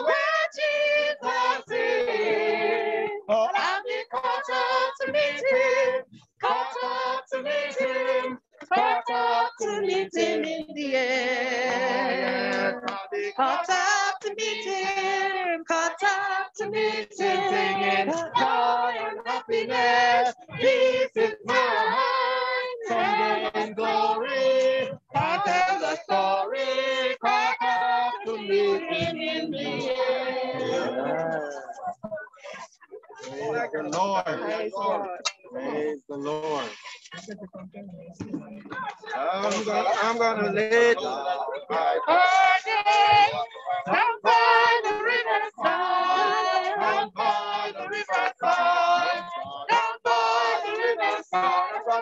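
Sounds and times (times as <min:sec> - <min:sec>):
group singing a hymn: 0:00.0 - 0:36.9, 0:39.1 - 0:52.0.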